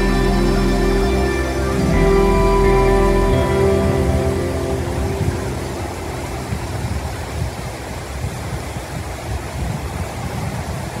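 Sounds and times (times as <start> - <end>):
low uneven rumble: 0.0 - 10.3.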